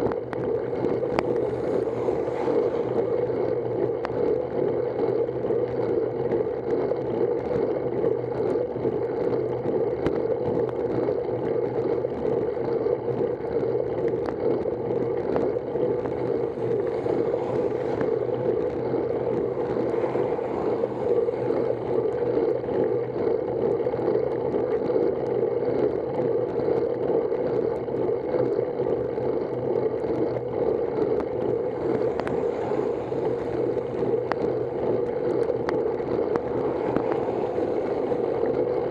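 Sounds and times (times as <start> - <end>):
small ticks: 0.0 - 2.0, 2.9 - 38.9
bicycle tyres on road: 0.0 - 38.9.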